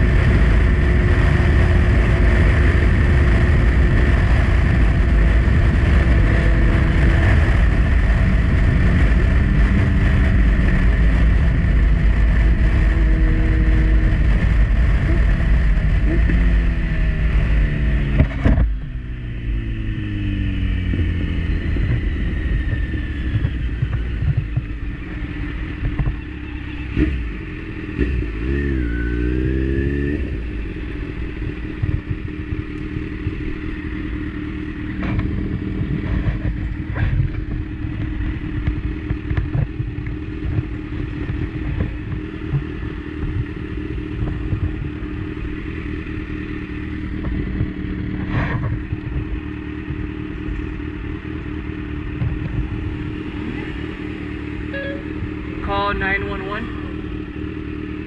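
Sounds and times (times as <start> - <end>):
wind noise: 0.0 - 55.7
motorcycle engine: 0.0 - 58.0.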